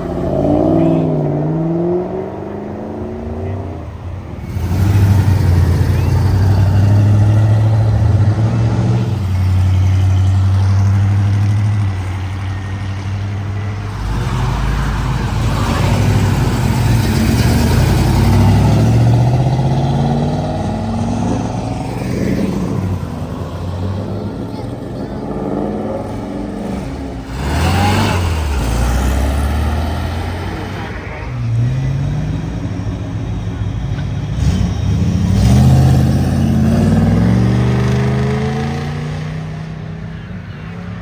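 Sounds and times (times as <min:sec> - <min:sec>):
car engines accelerating past: 0:00.0 - 0:41.0.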